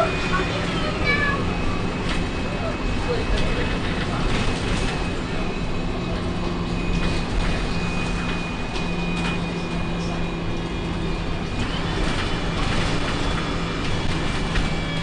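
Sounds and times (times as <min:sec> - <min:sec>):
diesel bus engine drone: 0:00.0 - 0:15.0.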